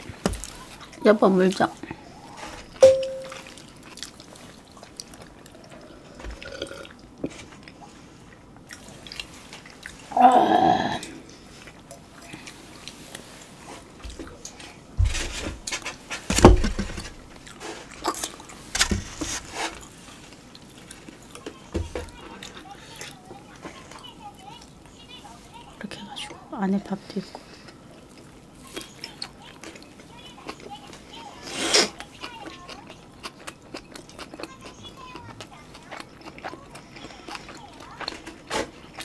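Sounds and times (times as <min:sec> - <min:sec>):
soft chewing: 0:00.0 - 0:10.2, 0:11.0 - 0:15.0, 0:17.1 - 0:39.0.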